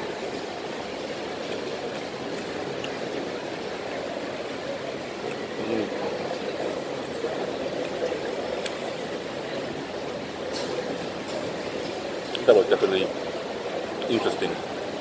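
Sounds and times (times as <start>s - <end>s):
food court crowd din: 0.0s - 15.0s.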